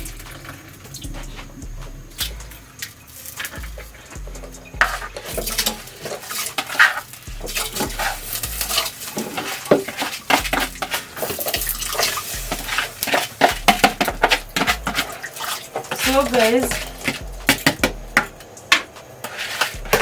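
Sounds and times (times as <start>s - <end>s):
pots and utensils clattering: 0.0s - 20.0s
water sloshing: 0.0s - 20.0s.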